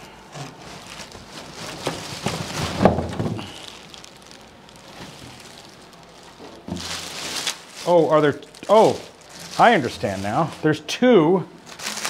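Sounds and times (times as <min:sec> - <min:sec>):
plastic bag crinkling: 0:00.3 - 0:10.9, 0:11.6 - 0:12.0.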